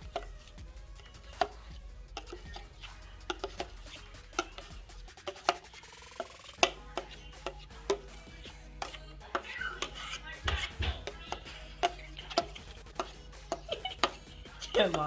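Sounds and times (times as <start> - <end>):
spoon scraping mixing bowl: 0.0 - 15.0.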